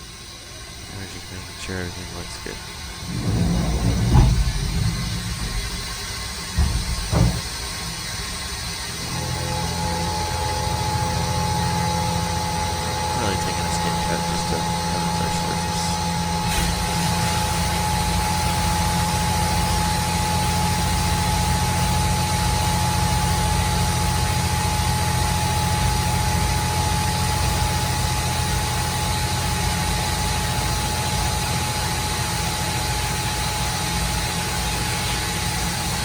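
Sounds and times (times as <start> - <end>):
machine hum: 0.0 - 36.0
milling machine cutting whine: 0.0 - 36.0.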